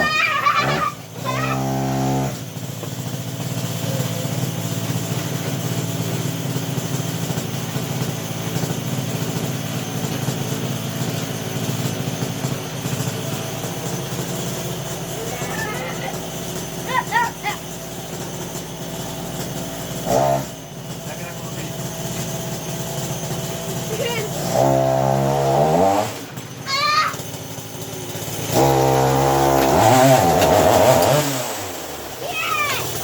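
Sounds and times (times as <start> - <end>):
two-stroke engine revving: 0.0 - 33.0.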